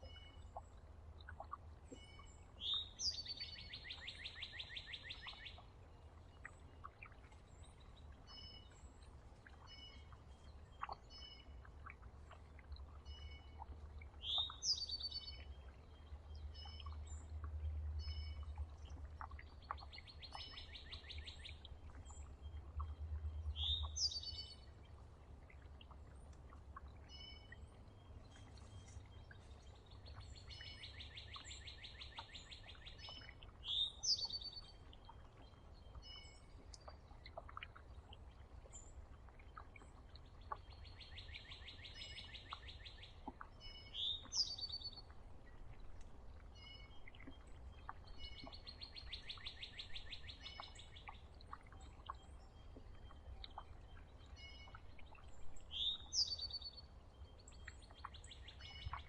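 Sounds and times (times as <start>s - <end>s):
songbird song phrase: 0.0s - 59.0s.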